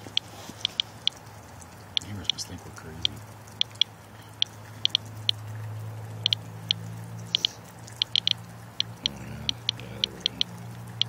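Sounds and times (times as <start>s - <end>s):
geiger counter clicking: 0.0s - 5.5s, 6.2s - 11.0s
low steady hum: 0.0s - 11.0s.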